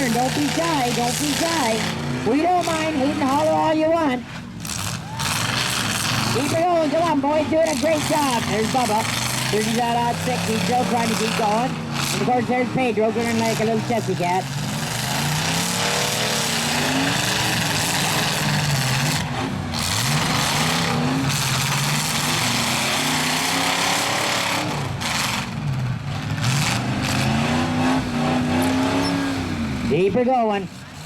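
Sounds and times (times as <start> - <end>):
truck engines revving: 0.0 - 31.0.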